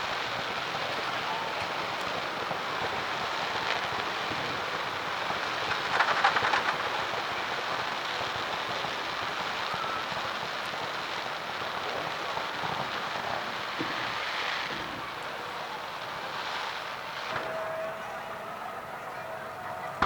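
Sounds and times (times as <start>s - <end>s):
steady hiss: 0.0s - 18.9s
fireworks crackling: 0.0s - 20.0s.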